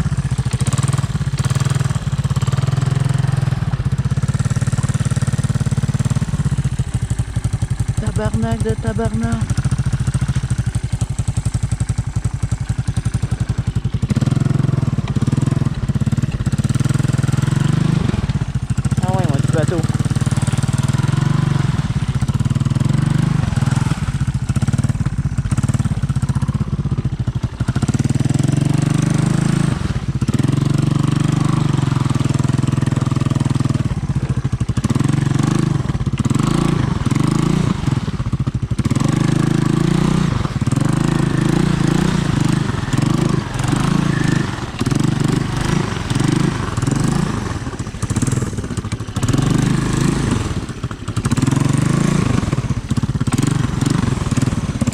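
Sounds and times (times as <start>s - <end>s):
engine revving under load: 0.0s - 54.9s.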